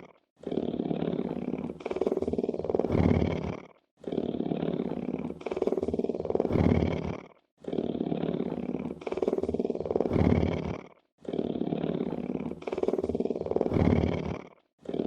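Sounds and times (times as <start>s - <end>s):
big cat purring: 0.0s - 15.0s.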